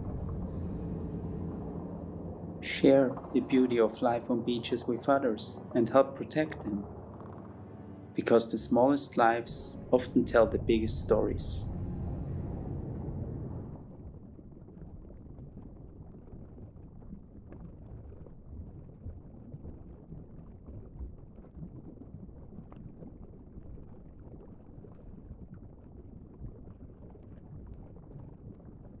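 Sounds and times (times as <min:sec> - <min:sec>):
low rumbling sea: 0:00.0 - 0:29.0.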